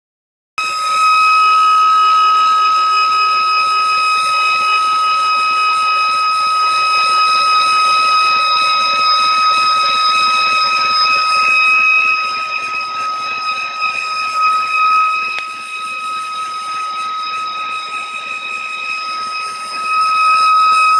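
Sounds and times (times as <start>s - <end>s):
high-pitched mechanical whine: 0.6s - 20.9s.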